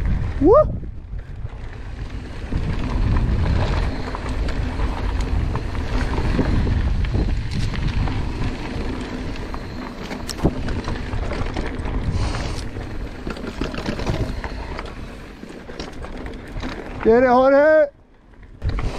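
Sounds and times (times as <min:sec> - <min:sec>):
bike tyres on rocky trail: 0:00.0 - 0:18.9
wind rumble on microphone: 0:00.0 - 0:18.9
bike clicks and knocks: 0:01.4 - 0:18.9.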